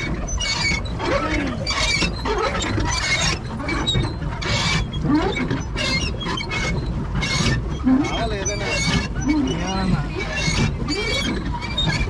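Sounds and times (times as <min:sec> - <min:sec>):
pedal mechanism squeaking and creaking: 0:00.0 - 0:12.0.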